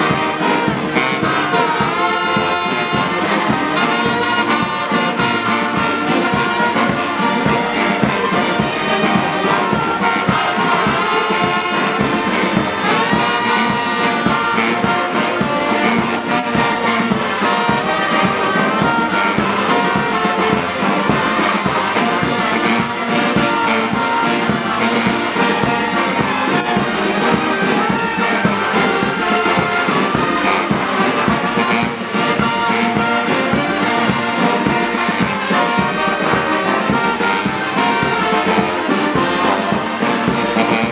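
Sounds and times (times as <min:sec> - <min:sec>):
brass band music: 0:00.0 - 0:40.9.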